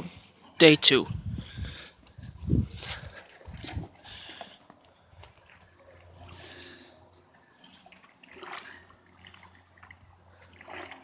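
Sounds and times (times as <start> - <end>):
water sloshing and splashing: 1.4 - 11.0.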